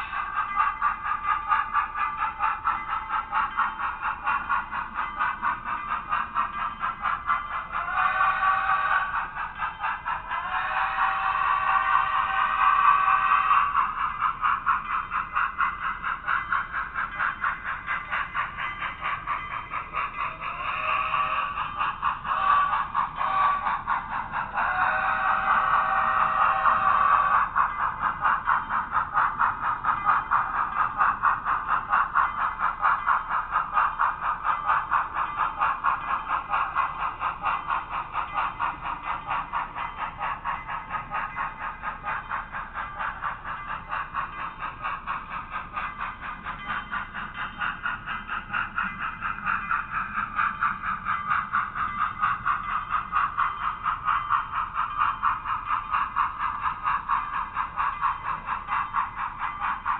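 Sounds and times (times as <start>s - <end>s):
model train clicking on track: 0.0s - 59.9s.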